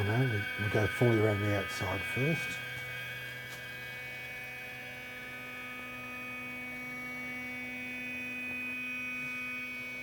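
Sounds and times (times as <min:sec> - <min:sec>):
lower motor tone: 0:00.0 - 0:10.0
stepper motors whining: 0:00.0 - 0:10.0.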